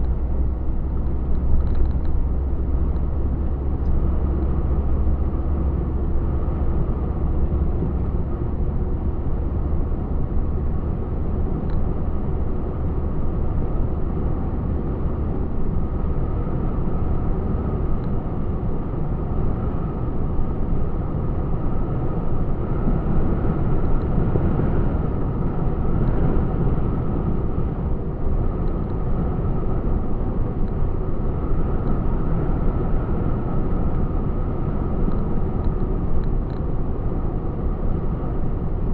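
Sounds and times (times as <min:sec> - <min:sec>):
truck engine and road noise: 0:00.0 - 0:38.9.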